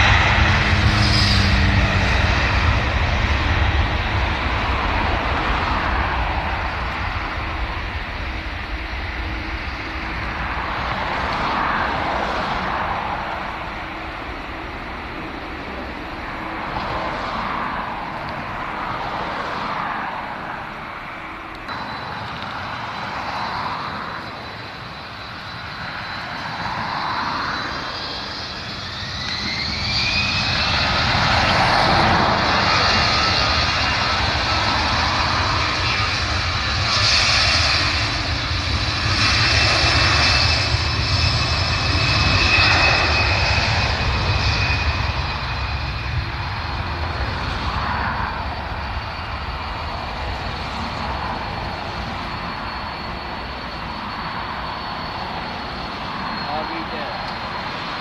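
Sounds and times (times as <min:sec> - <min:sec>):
jet aircraft noise: 0:00.0 - 0:58.0
jet engines spooling up: 0:00.0 - 0:58.0.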